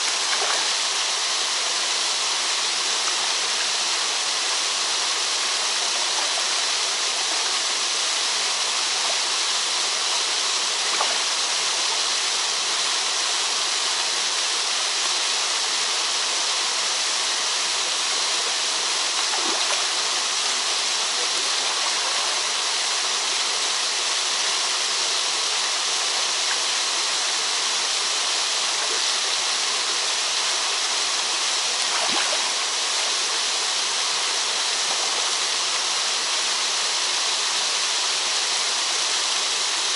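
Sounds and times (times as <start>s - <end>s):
waterfalls splashing into pool: 0.0s - 39.9s.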